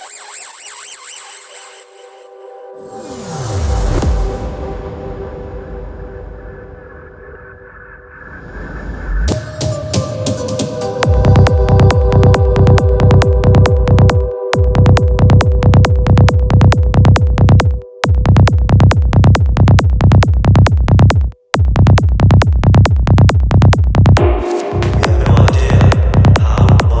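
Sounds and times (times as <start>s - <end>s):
trance music with synths: 0.0s - 8.2s, 9.2s - 27.0s.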